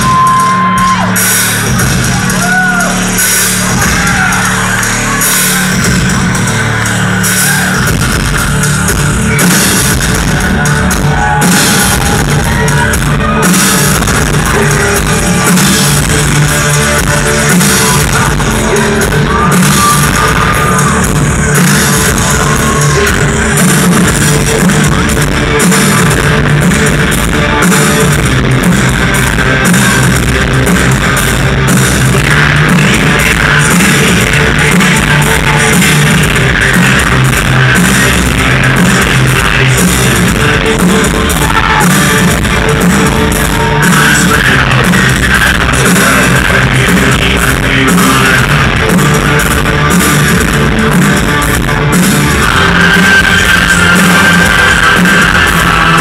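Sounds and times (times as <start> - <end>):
drums: 0.0 - 56.0
keyboards: 0.0 - 56.0
person singing: 0.0 - 56.0.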